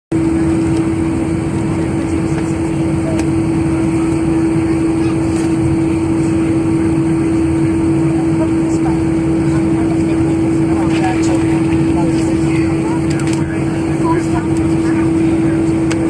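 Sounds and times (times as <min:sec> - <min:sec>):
aircraft engines rumbling: 0:00.1 - 0:16.0
constant cabin hum: 0:00.1 - 0:16.0.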